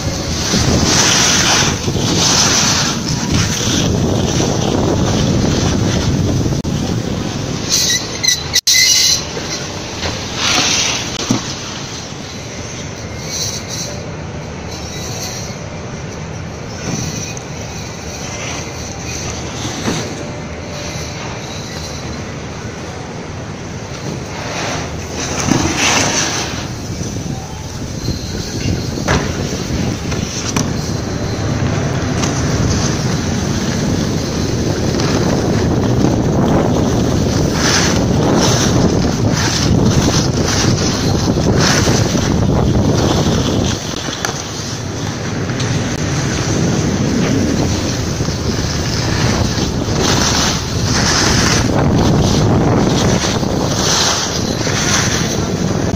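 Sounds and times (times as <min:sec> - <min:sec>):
wind buffeting microphone: 0:00.0 - 0:08.6, 0:15.6 - 0:55.9
snowboard edges scraping snow: 0:00.0 - 0:13.9, 0:16.6 - 0:22.6, 0:23.5 - 0:55.9
rumbling machine noise: 0:00.0 - 0:55.9.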